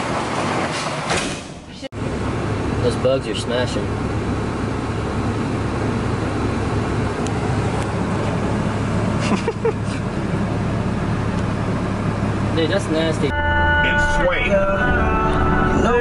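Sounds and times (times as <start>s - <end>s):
pickup truck engine running: 2.0s - 16.0s.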